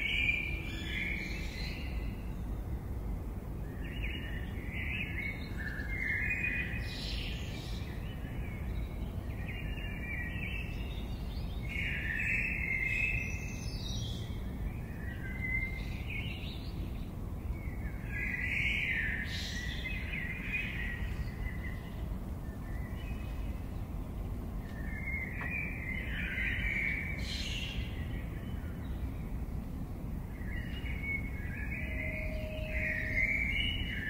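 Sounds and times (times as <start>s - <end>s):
birds chirping and singing: 3.7s - 34.0s.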